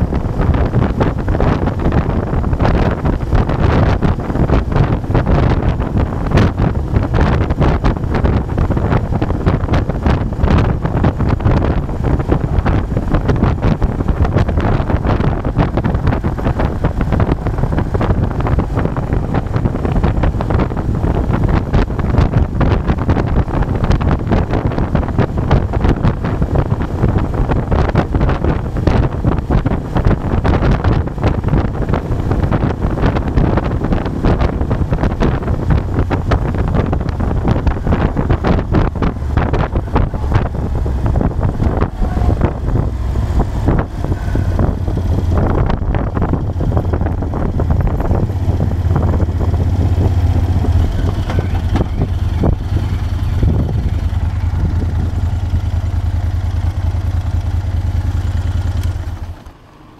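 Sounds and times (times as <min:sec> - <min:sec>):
motorcycle engine cruising: 0:00.0 - 0:59.9
wind buffeting microphone: 0:00.0 - 0:59.9.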